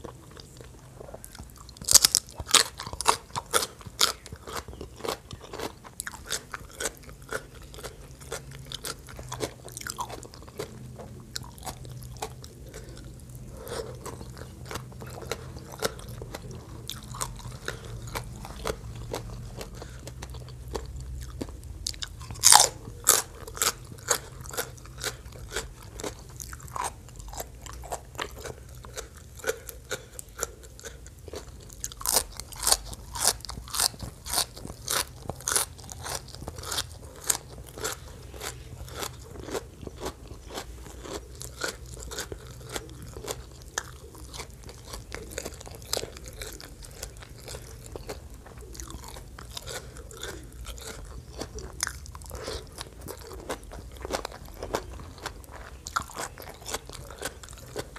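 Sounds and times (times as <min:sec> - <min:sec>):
chewing crisp raw vegetables: 0:00.0 - 0:57.9.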